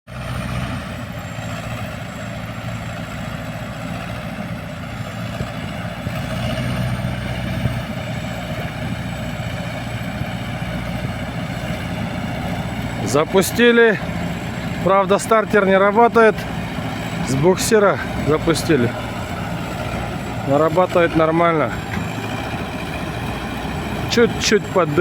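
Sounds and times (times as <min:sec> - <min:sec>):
diesel engine running: 0:00.1 - 0:25.0.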